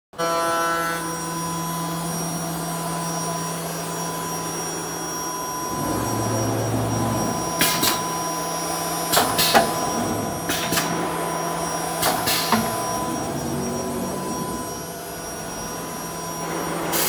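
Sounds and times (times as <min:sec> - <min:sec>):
machine whirring hum: 0:00.2 - 0:17.0
thin high whine: 0:00.2 - 0:17.0
deeper machine hum: 0:00.4 - 0:17.0.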